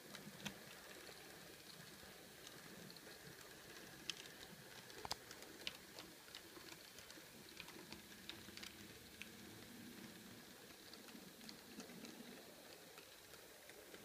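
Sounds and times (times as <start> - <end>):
faint steady hum: 0.0 - 14.0
model train wheels clicking: 0.0 - 14.0.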